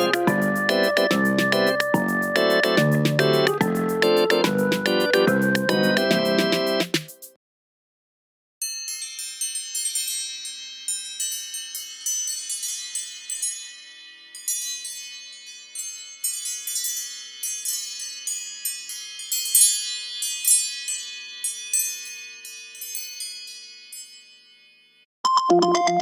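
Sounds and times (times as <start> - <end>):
high ringing bell notes: 0.0 - 4.6, 8.6 - 25.1.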